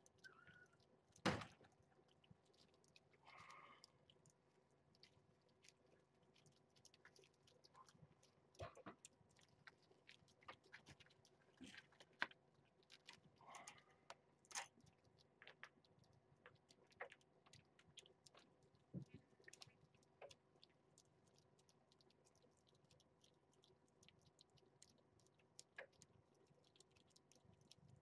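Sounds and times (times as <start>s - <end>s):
cats chewing wet food: 0.0s - 28.0s.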